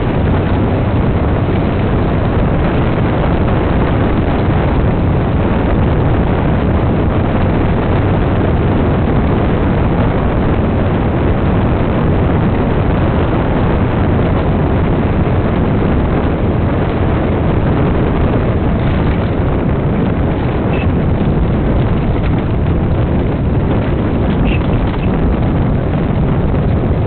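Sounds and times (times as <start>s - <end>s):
dune buggy engine rumble: 0.0s - 27.0s
wind buffeting microphone: 0.0s - 27.0s.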